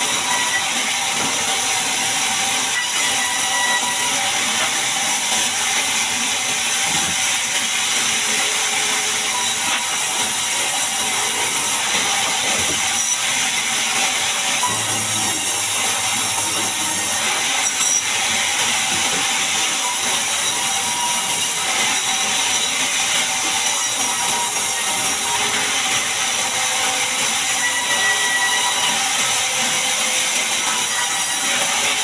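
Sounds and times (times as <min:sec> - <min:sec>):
band saw cutting log: 0:00.0 - 0:32.0.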